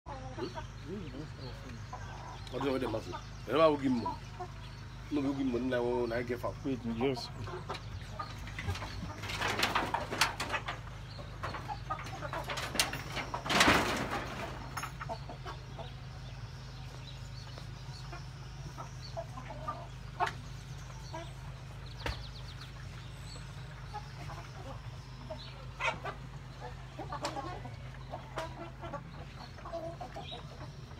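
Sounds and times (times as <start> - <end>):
chickens clucking: 0.1 - 30.9.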